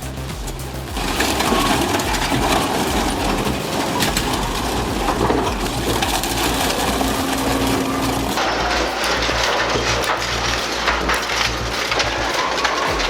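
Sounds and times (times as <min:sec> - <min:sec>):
low rumble: 0:00.0 - 0:13.0
metal shredder crunching sheet metal: 0:00.0 - 0:13.0.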